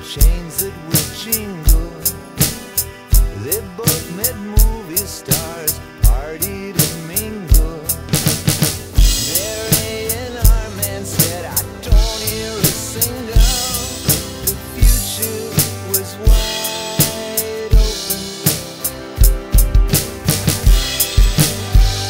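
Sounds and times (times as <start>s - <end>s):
electronic drum kit beat: 0.0s - 22.0s
rock song with singing: 0.0s - 22.0s.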